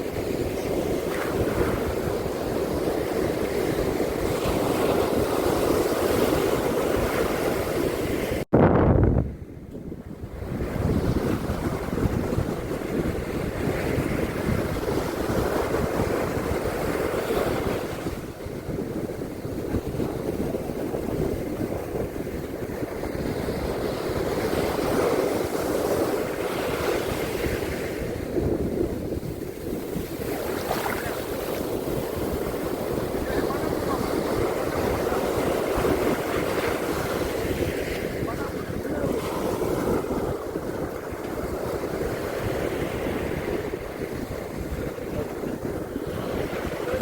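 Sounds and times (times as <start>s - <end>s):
ocean surf on a beach: 0.0s - 8.4s, 9.0s - 47.0s
wind rumbling on microphone: 0.0s - 47.0s.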